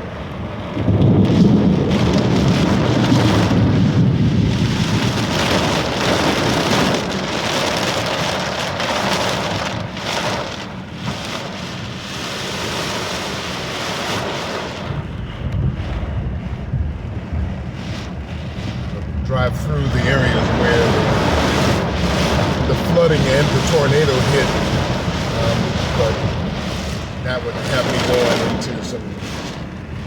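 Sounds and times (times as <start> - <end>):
heavy rain on a car: 0.0 - 30.0
road and tyre noise: 0.0 - 30.0.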